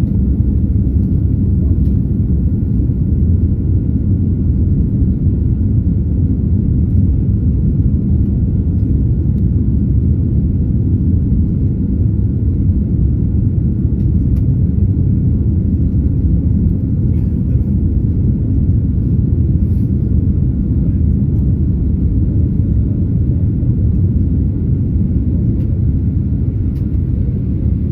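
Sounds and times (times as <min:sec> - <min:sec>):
faint engine whine: 0:00.0 - 0:27.9
jet engines low rumble: 0:00.0 - 0:27.9.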